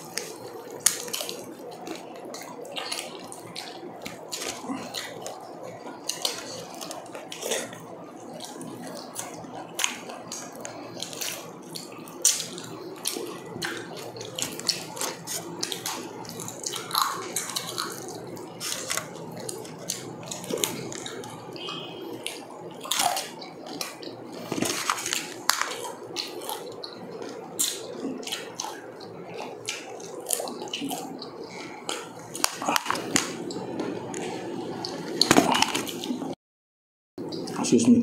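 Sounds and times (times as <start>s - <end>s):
wet chewing and lip smacks: 0.0s - 36.2s.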